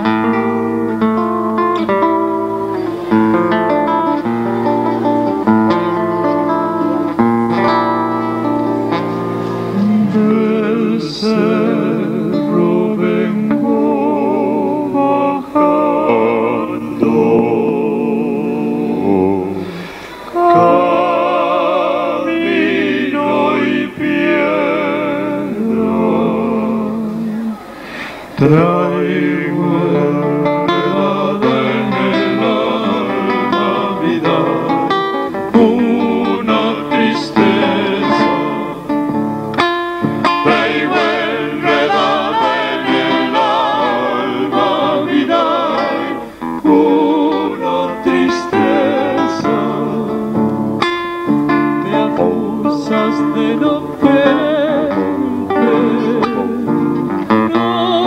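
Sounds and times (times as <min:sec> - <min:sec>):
acoustic guitar plucked and strummed: 0:00.0 - 0:27.7, 0:28.4 - 0:58.0
man singing with vibrato: 0:00.0 - 0:39.2, 0:39.9 - 0:58.0.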